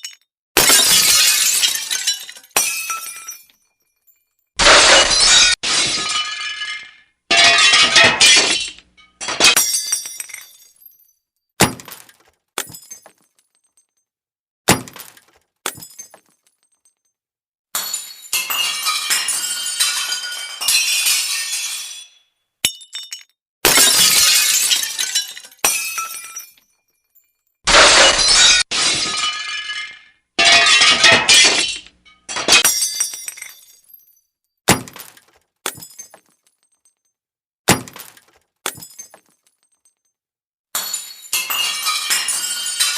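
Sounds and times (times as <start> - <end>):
glass shattering: 0.0 - 14.0, 14.7 - 17.1, 17.8 - 37.1, 37.7 - 40.1, 40.8 - 42.9.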